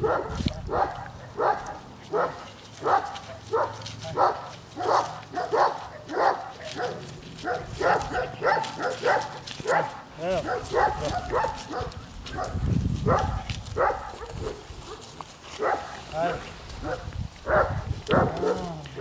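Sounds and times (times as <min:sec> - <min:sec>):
dog barking: 0:00.0 - 0:19.0.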